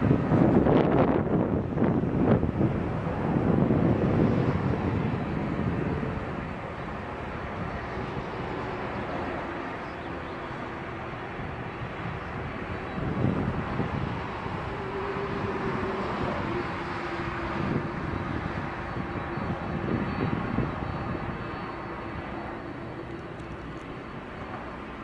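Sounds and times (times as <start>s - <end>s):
jet engines at taxi power: 0.0s - 25.0s
wind rumble on microphone: 0.0s - 25.0s.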